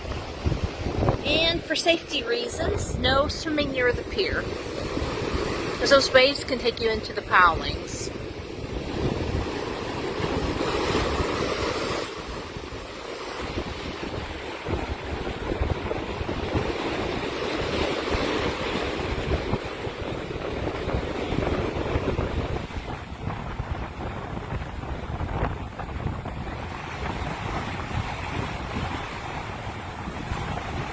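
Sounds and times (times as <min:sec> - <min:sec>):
surf breaking and washing in: 0:00.0 - 0:30.9
wind buffeting microphone: 0:00.0 - 0:30.9.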